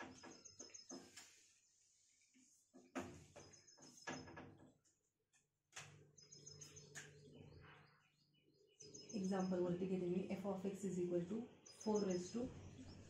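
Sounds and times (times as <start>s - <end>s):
bird chirping trills: 0.0s - 4.6s, 5.9s - 13.0s.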